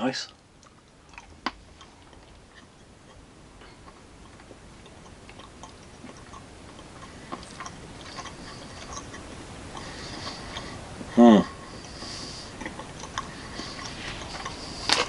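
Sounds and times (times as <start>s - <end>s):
person chewing chocolate: 0.4s - 15.0s.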